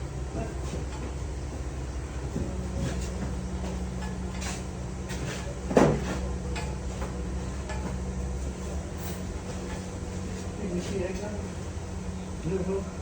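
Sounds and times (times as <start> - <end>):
electrical machine hum: 0.0 - 13.0.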